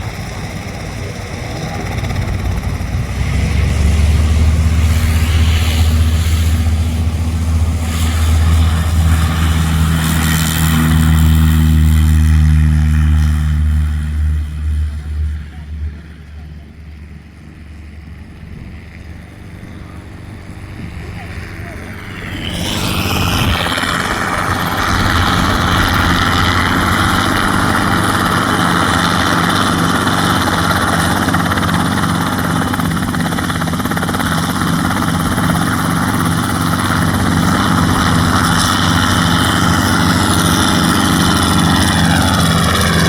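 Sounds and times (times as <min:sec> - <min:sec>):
propeller airplane engine: 0:00.0 - 0:43.0.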